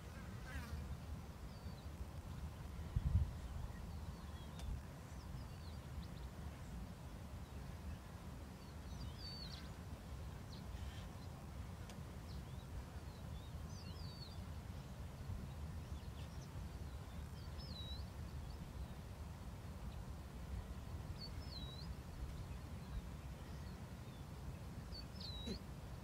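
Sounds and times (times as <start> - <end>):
small birds chirping: 0.0 - 19.1, 19.8 - 26.0.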